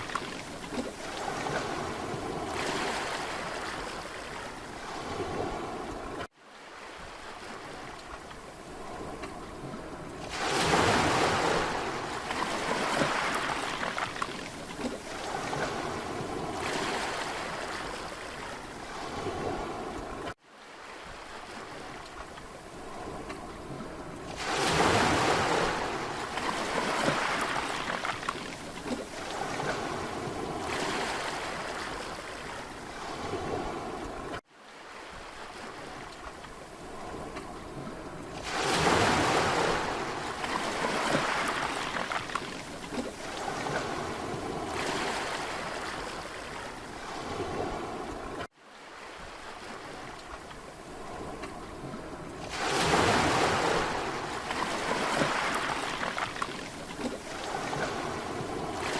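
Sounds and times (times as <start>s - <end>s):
sea waves washing onto beach: 0.0s - 58.9s.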